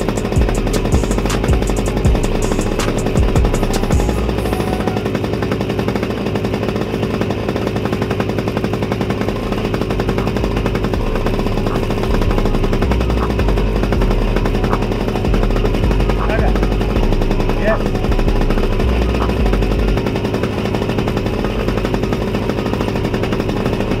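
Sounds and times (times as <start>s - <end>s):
two-stroke kart engine running: 0.0s - 24.0s.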